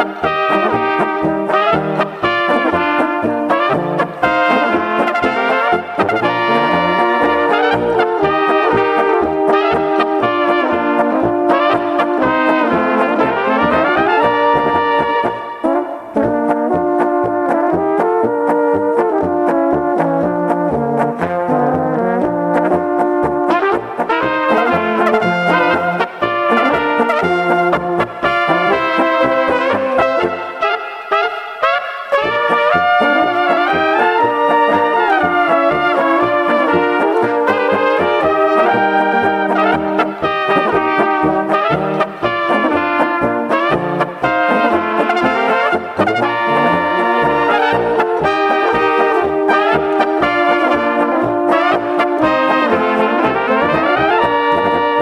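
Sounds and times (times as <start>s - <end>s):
brass band playing a polka: 0.0s - 55.0s.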